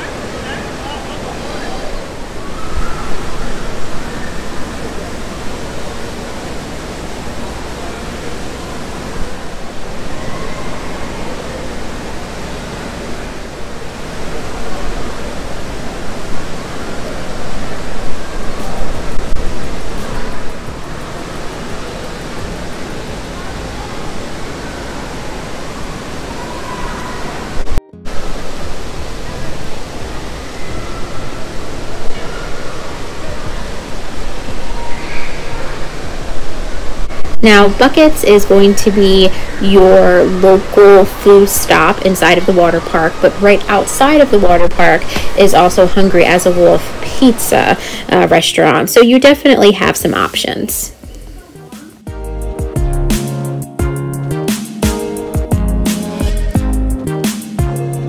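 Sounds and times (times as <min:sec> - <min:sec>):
water splashing echoing in hall: 0:00.0 - 0:51.9
distant crowd voices: 0:00.0 - 0:52.1.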